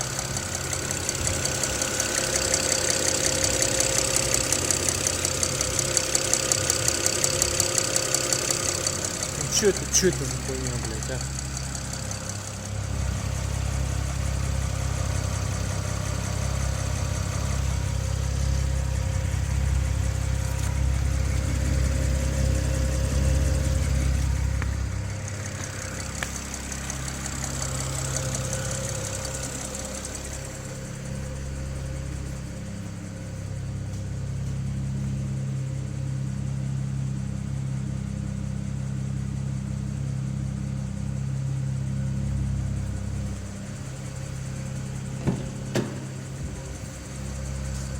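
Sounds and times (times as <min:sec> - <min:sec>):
car engine idling: 0:00.0 - 0:47.9
engine ticking: 0:00.0 - 0:47.9.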